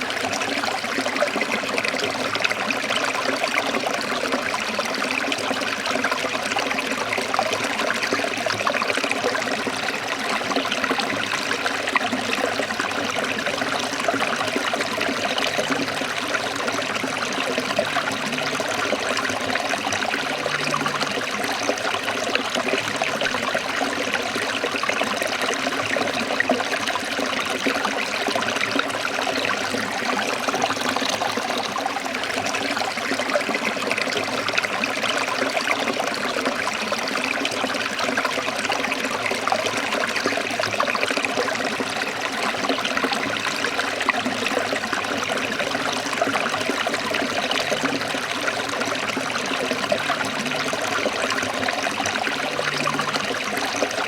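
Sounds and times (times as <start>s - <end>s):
stream splashing over rocks: 0.0s - 54.0s.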